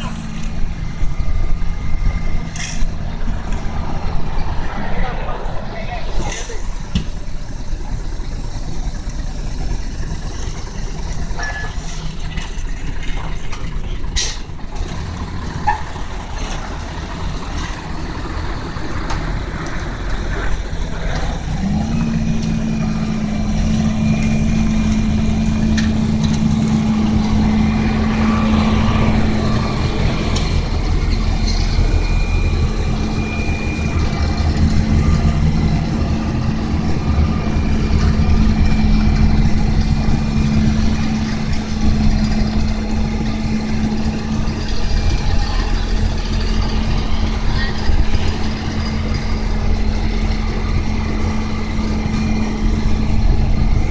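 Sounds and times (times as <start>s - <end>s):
heavy diesel engines running: 0.0s - 53.9s.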